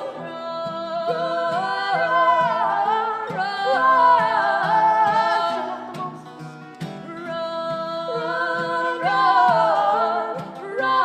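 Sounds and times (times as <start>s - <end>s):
acoustic guitar: 0.0s - 11.0s
voices singing in harmony: 0.0s - 11.0s.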